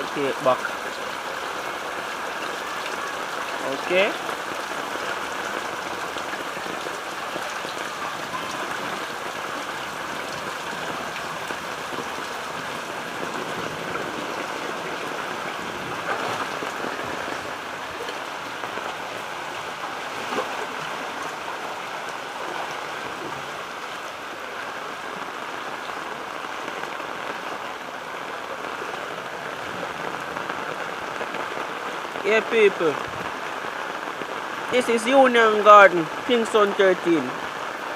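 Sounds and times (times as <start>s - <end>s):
floodwater rushing down street: 0.0s - 37.9s
heavy rain pouring: 0.0s - 37.9s.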